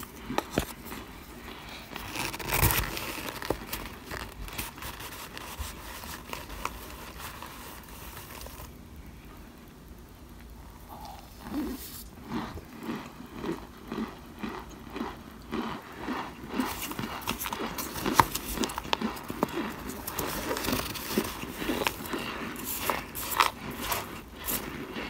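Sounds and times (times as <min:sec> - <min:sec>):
person chewing crunchy food: 0:00.0 - 0:08.7, 0:10.8 - 0:25.0.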